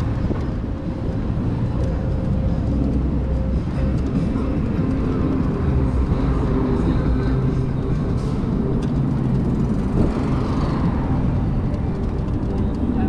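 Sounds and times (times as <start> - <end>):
vehicle travel noise: 0.0 - 13.0
wind rumble: 0.0 - 13.0.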